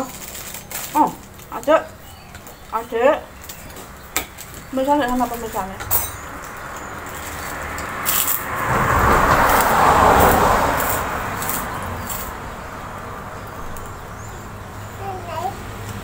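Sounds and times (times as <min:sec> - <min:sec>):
vehicle passing by: 0:00.0 - 0:16.0.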